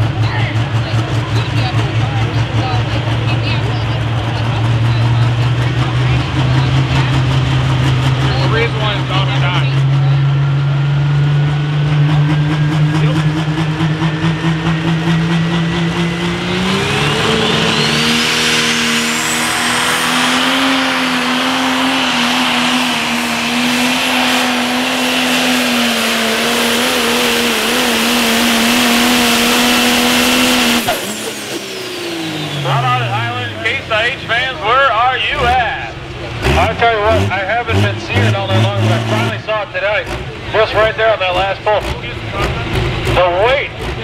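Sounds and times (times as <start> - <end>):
diesel tractor engine revving: 0.0 - 44.0.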